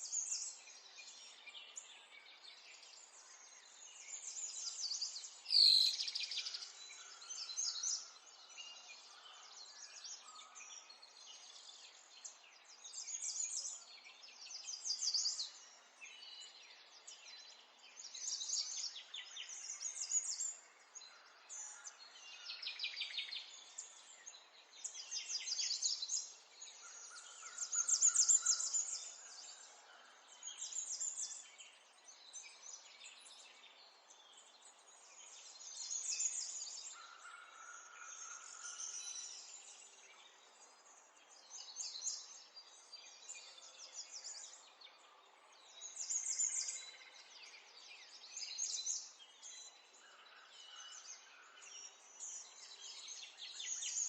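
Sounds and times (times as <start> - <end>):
songbirds singing and twittering: 0.0 - 54.0.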